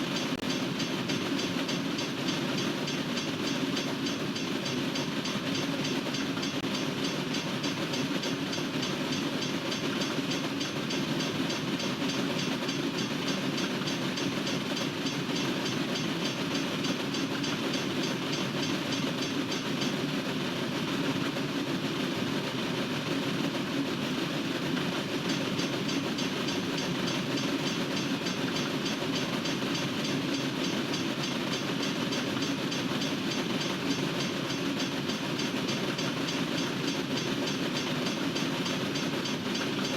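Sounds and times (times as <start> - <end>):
faint fast ticking: 0.0 - 20.4, 24.1 - 39.9
train wheels rumbling on track: 0.0 - 20.5, 23.4 - 39.9.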